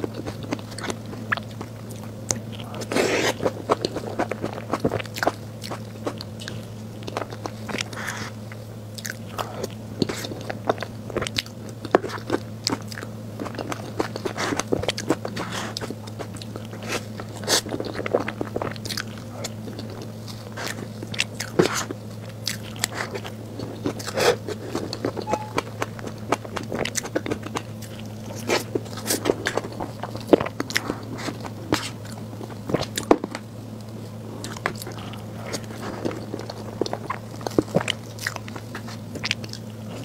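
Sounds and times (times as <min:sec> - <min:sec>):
steady low hum: 0:00.0 - 0:40.0
wet bites and chewing: 0:00.0 - 0:40.0.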